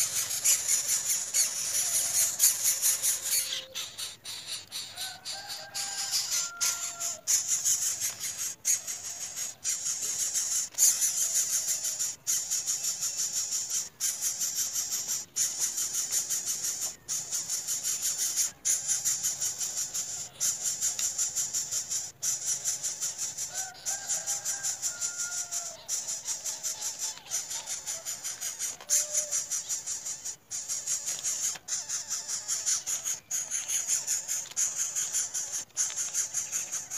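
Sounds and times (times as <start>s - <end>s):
insects chirring: 0.0s - 36.9s.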